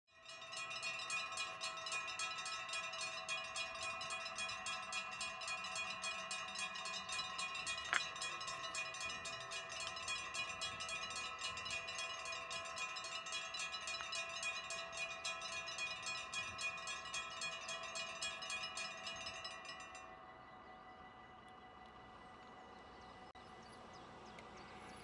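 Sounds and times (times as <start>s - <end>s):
level-crossing bells ringing: 0.2s - 22.8s.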